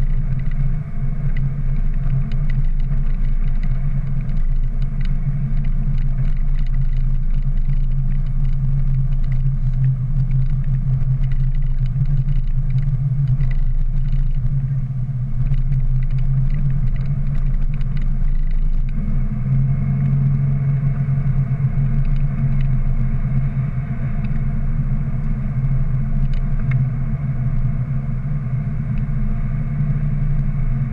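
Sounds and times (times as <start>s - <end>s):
engine and road drone: 0.0s - 30.9s.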